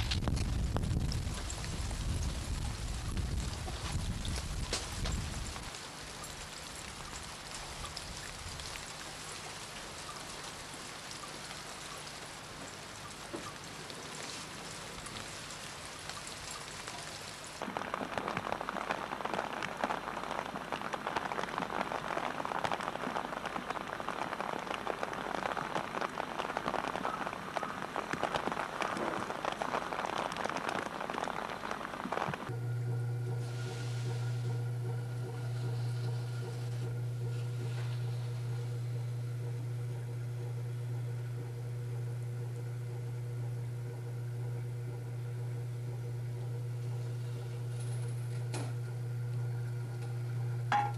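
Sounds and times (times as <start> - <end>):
close dense drips: 0.0 - 50.9
rain: 0.0 - 50.9
water trickling onto pebbles: 0.0 - 50.9.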